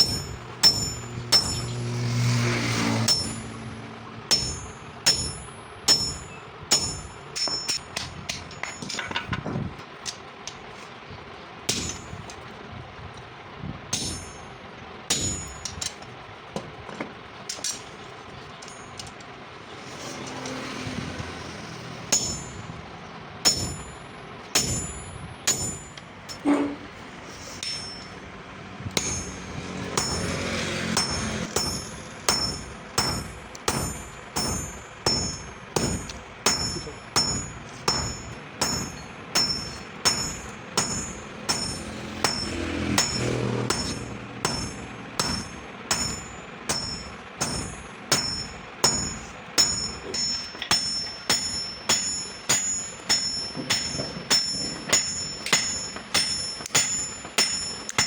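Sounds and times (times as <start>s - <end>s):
hammer striking steel on anvil: 0.0s - 9.4s, 11.7s - 12.4s, 13.9s - 16.7s, 22.1s - 22.8s, 23.4s - 28.3s, 28.9s - 58.0s.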